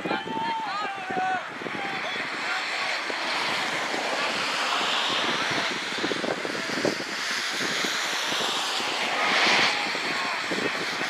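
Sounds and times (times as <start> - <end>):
wind buffeting microphone: 0.0 - 11.0
rain hiss: 2.0 - 11.0.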